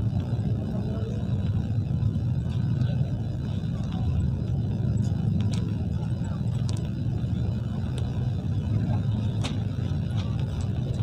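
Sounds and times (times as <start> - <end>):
car engines in slow traffic: 0.0 - 11.0.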